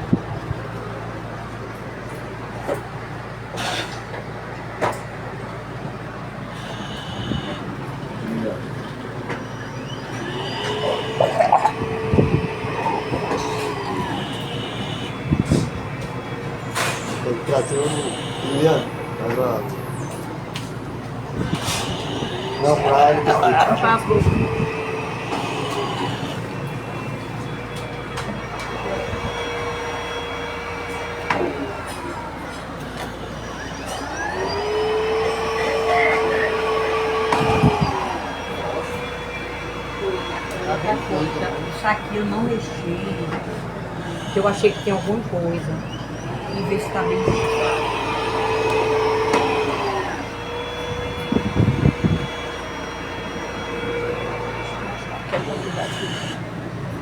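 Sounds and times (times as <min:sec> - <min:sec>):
blower rushing air: 0:05.3 - 0:57.0.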